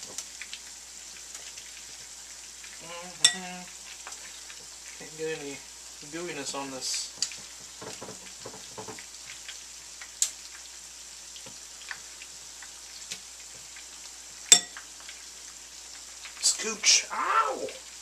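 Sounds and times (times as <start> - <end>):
grease crackles and pops: 0.0 - 18.0
meat sizzling in grease: 0.0 - 18.0.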